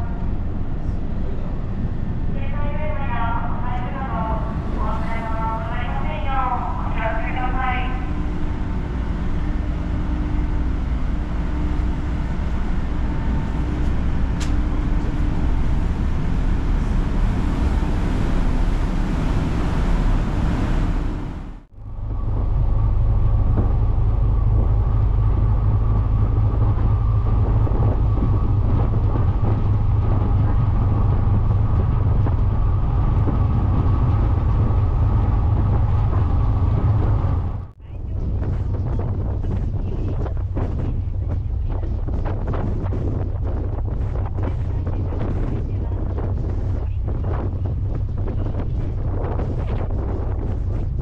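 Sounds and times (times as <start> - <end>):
low engine rumble with hum: 0.0 - 51.0
ship engine running: 0.0 - 51.0.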